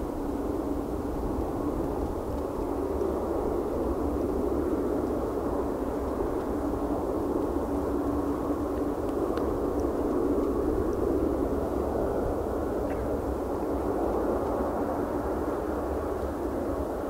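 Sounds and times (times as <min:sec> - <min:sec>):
jet engine drone: 0:00.0 - 0:17.0.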